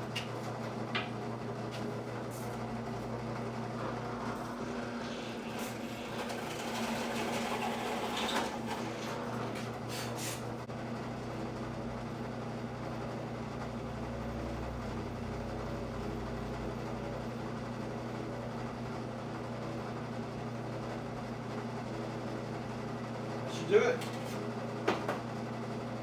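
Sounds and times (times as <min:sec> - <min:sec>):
electric motor hum: 0:00.0 - 0:26.0.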